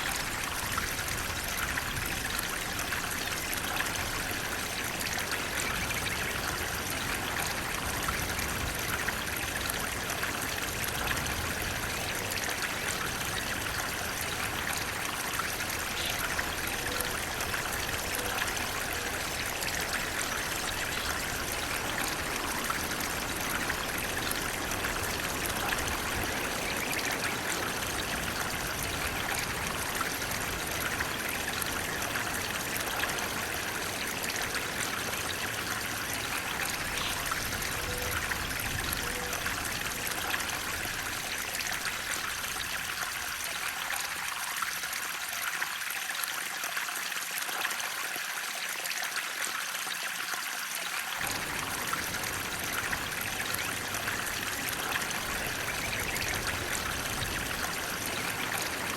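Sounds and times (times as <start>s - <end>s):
water flowing steadily: 0.0s - 58.9s.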